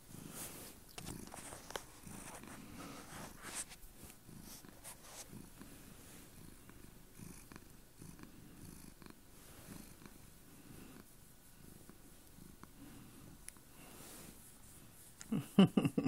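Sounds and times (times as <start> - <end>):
cat purring: 0.1 - 15.5.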